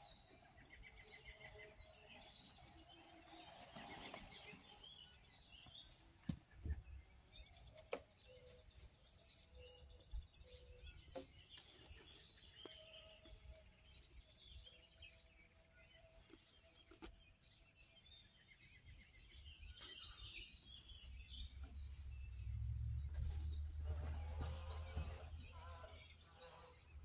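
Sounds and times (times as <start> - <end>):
songbird trills and chirps: 0.0 - 27.0.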